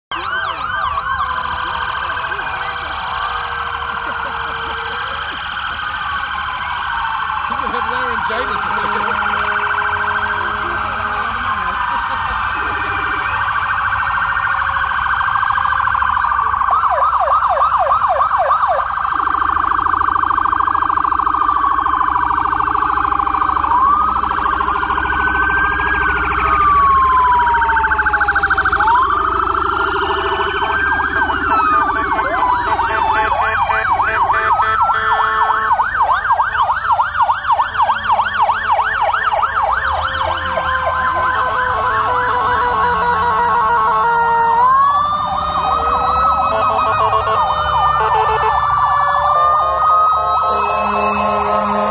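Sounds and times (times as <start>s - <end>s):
police sirens wailing: 0.0s - 51.9s
police sirens yelping: 0.0s - 51.9s.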